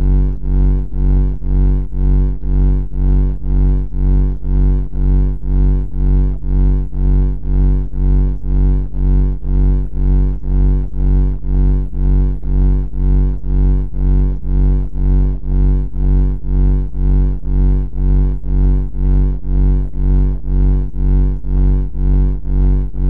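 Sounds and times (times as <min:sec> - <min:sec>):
low pulsing buzzing drone: 0:00.0 - 0:23.0.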